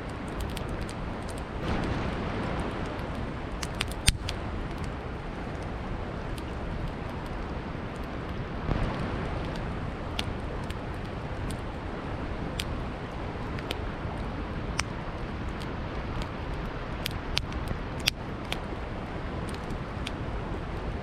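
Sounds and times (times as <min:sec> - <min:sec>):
campfire crackling: 0:00.0 - 0:21.0
steady rushing noise: 0:00.0 - 0:21.0.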